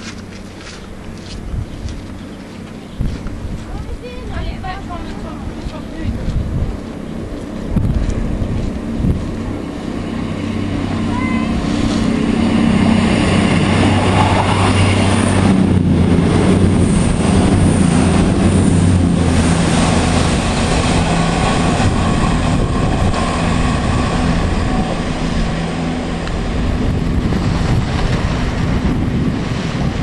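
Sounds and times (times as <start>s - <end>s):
diesel engine hum: 0.0s - 30.0s
wheels rumbling on rail: 0.0s - 30.0s.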